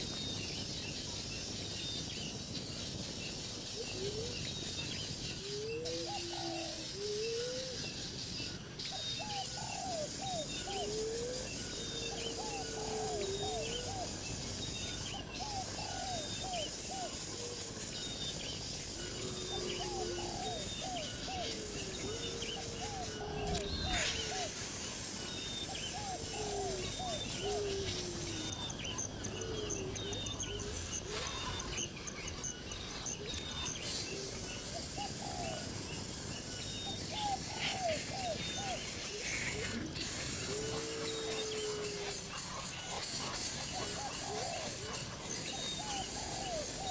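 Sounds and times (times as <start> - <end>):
birds calling with slurred whistles: 0.0 - 46.9.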